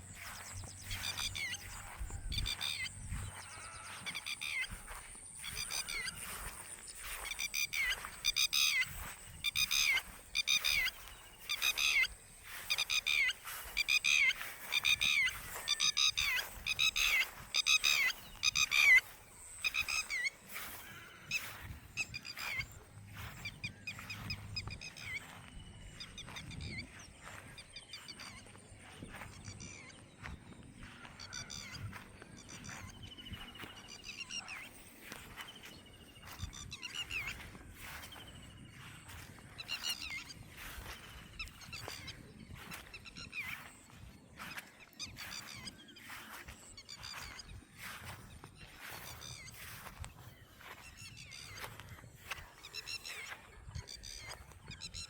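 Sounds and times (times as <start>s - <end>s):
bird calling in quick runs: 0.0s - 55.0s.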